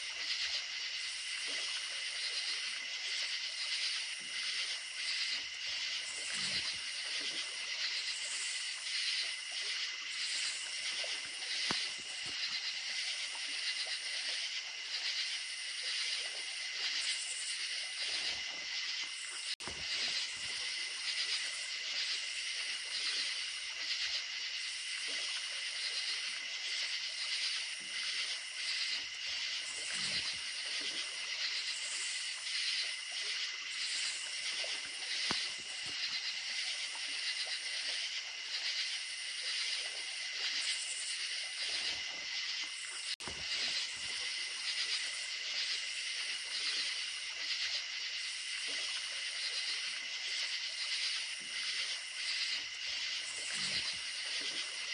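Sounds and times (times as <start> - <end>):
crickets trilling: 0.0 - 54.9.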